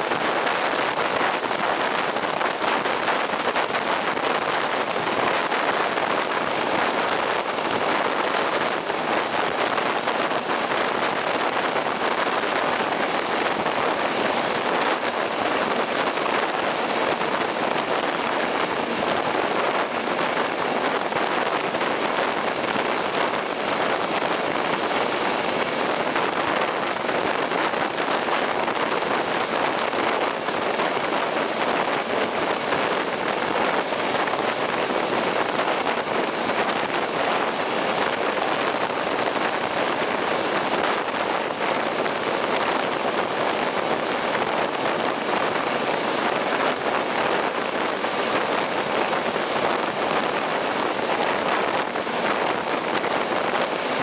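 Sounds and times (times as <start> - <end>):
train wheel and air rush: 0.0 - 54.0
wind buffeting microphone: 0.0 - 54.0.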